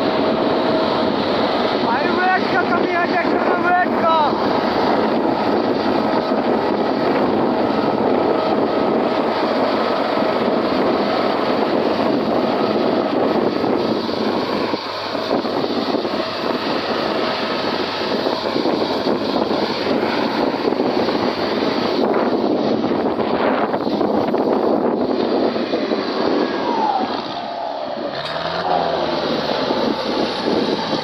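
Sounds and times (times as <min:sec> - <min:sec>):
rushing noise: 0:00.0 - 0:31.0
tractor engine running: 0:00.0 - 0:31.0.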